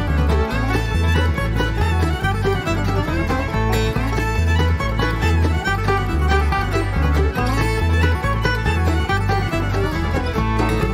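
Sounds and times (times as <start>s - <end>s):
instrumental music with bouncing bass: 0.0s - 10.9s.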